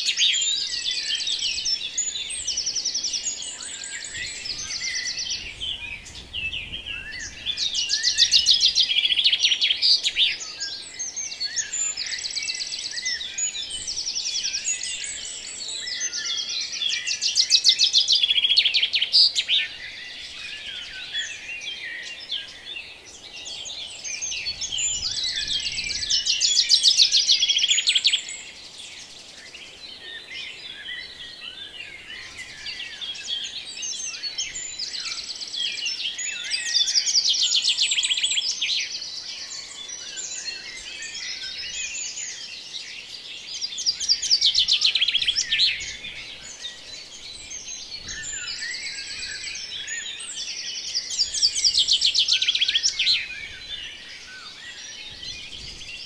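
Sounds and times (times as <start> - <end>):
bird trilling song: 0.0 - 56.0
songbirds chirping: 0.0 - 56.0.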